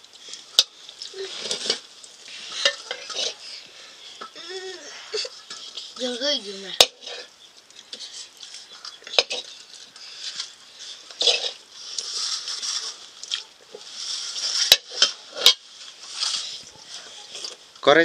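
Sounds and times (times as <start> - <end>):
rice scraping on metal plates: 1.2 - 6.2, 6.8 - 7.3, 8.1 - 13.1, 13.7 - 17.6.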